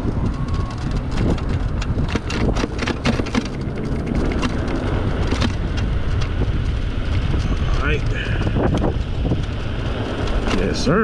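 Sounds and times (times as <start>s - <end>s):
wind rumbling on microphone: 0.0s - 11.0s
sharp ticks and clicks: 0.5s - 11.0s.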